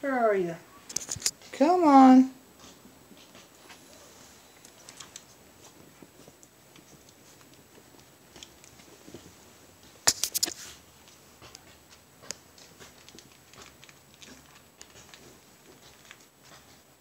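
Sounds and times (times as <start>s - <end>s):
puppies scuffling: 2.5s - 17.0s.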